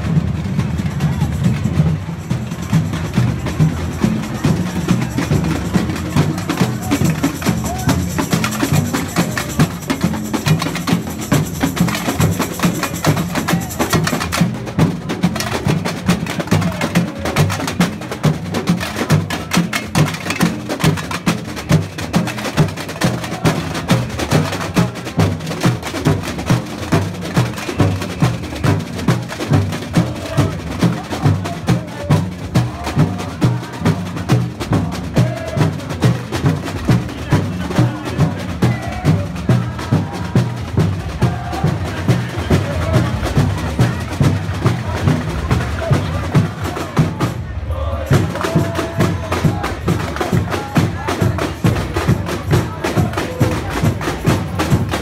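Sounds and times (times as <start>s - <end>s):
bass drums beating: 0.0s - 19.5s, 28.7s - 55.0s
snare drums and percussion: 0.0s - 55.0s.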